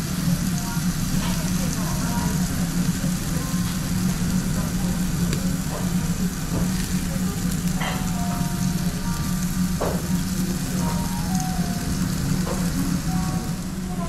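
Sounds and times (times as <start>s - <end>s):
constant low hum: 0.0s - 14.0s
meat sizzling on a grill: 0.0s - 14.0s.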